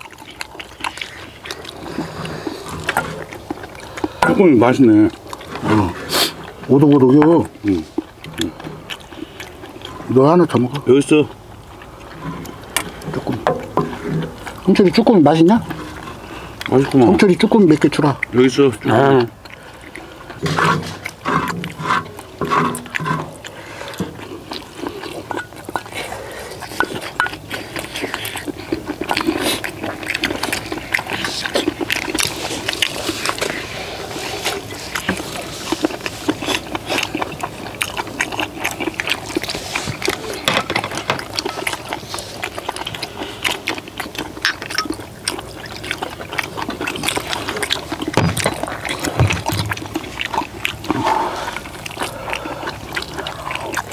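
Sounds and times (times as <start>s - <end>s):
people chewing and slurping: 0.0s - 53.9s.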